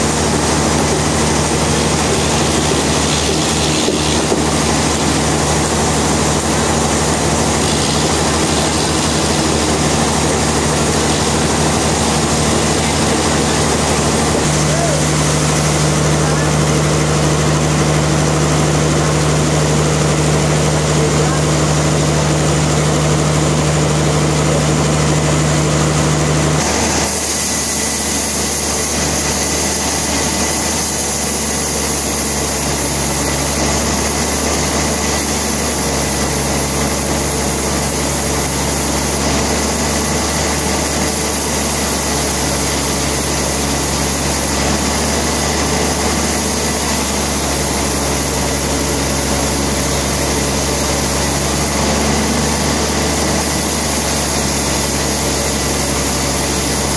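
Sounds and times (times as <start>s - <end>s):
sawmill machinery running: 0.0s - 56.9s.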